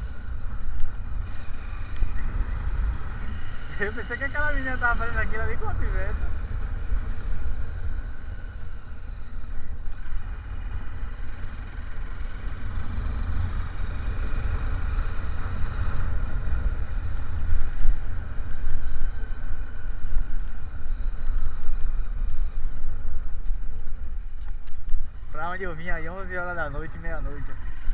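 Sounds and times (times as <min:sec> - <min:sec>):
vehicle road and engine noise: 0:00.0 - 0:27.9.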